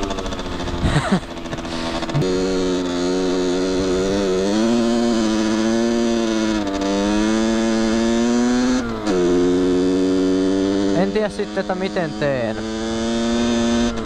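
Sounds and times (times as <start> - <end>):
two-stroke motorcycle engine: 0.0 - 14.0.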